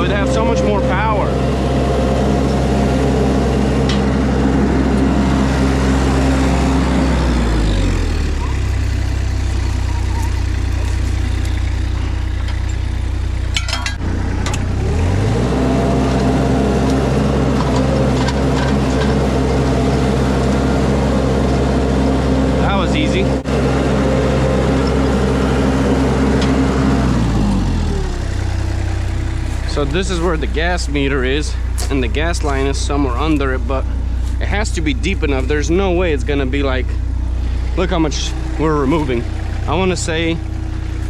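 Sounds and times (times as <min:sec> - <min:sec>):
skid steer engine running hard: 0:00.0 - 0:41.0.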